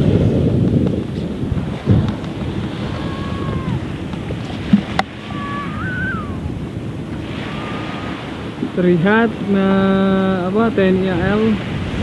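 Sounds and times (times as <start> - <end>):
waves washing onto beach: 0.0 - 12.0
wind buffeting microphone: 0.0 - 12.0.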